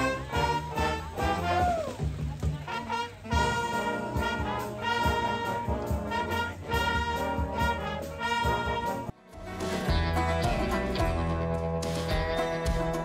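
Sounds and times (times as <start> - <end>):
concert band playing: 0.0 - 13.0.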